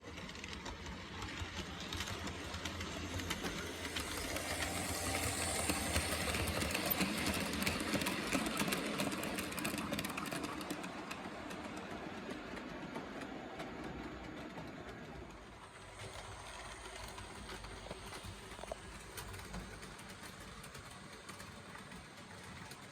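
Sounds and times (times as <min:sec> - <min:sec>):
wheels clicking over rail joints: 0:00.1 - 0:22.9
model train motor whirring: 0:00.2 - 0:11.7, 0:15.4 - 0:22.8.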